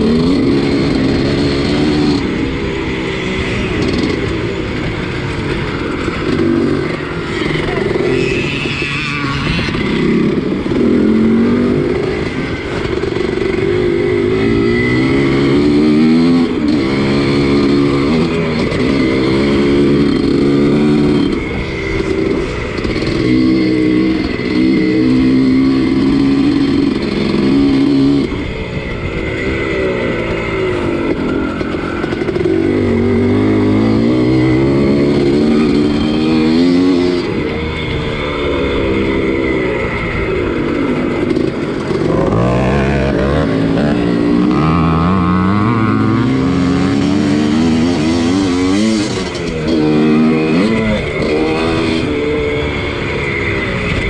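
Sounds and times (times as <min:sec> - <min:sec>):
motocross bike engine racing: 0:00.0 - 0:54.0.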